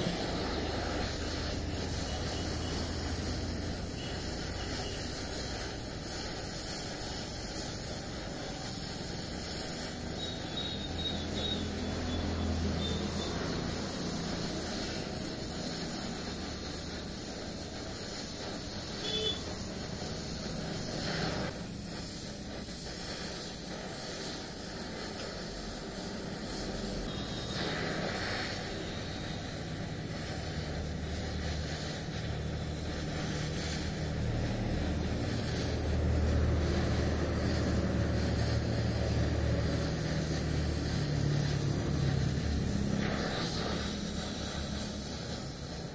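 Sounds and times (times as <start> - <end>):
gas welding torch hissing: 0.0 - 45.9.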